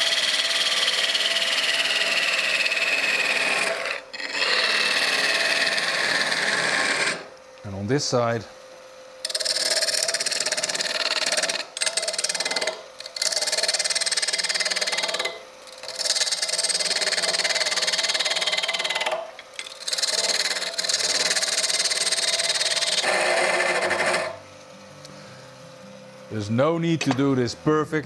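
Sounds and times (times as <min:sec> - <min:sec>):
turning tool cutting wood hissing: 0:00.0 - 0:07.3, 0:09.2 - 0:24.4
lathe humming: 0:00.0 - 0:28.0.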